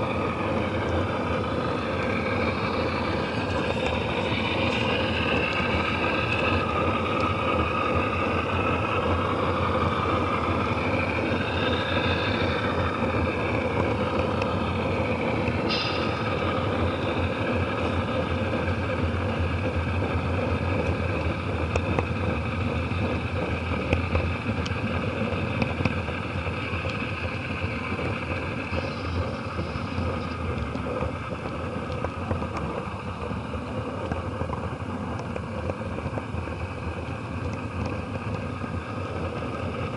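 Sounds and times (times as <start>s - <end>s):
high wavering whine: 0.0s - 39.9s
model train wheels rumbling on rail: 0.0s - 39.9s.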